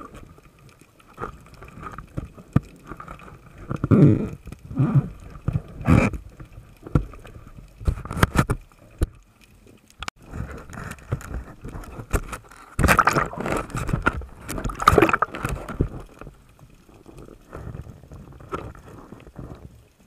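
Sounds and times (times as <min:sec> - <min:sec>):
underwater bubbling: 0:00.0 - 0:20.0.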